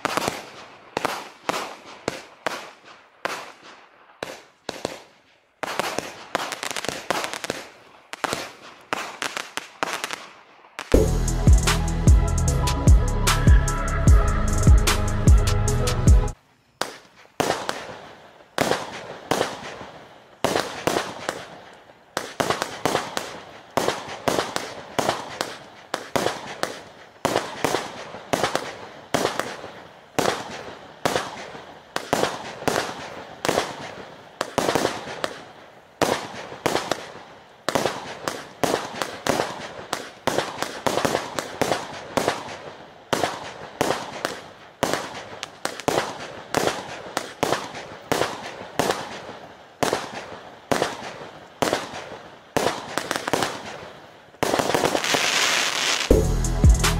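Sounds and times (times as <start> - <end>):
firework shots firing: 0.0 - 11.1, 16.8 - 56.2
firework crackling: 0.0 - 15.7, 16.3 - 56.9.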